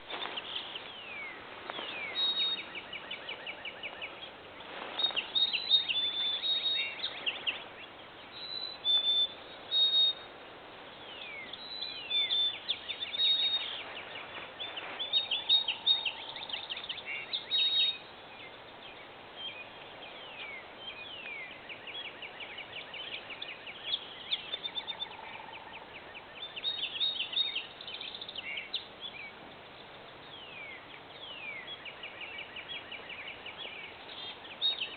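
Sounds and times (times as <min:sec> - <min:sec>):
songbirds singing and calling: 0:00.0 - 0:34.9.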